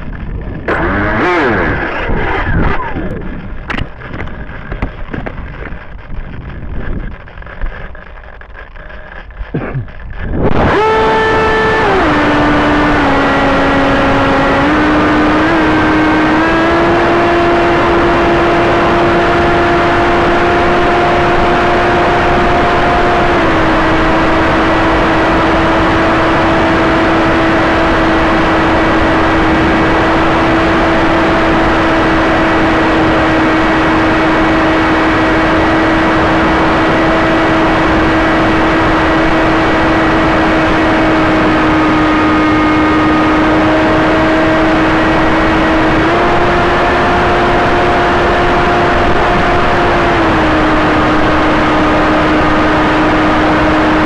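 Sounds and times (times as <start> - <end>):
electric motor and propeller whine: 0.0 - 54.0
wind noise: 0.0 - 54.0.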